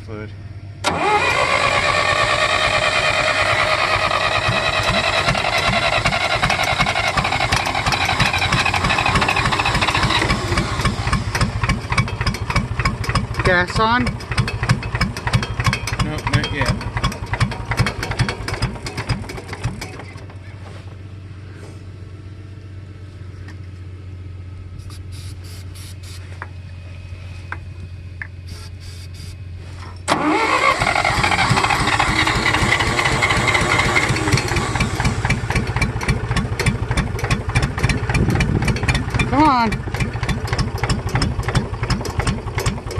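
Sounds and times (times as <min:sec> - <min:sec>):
tractor engine cranking: 0:00.8 - 0:20.7, 0:28.3 - 0:42.9
low hum: 0:01.8 - 0:42.9.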